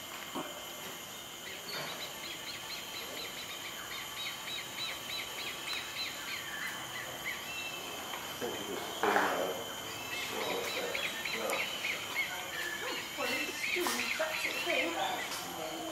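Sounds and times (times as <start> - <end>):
small bird chirping: 1.1 - 15.9.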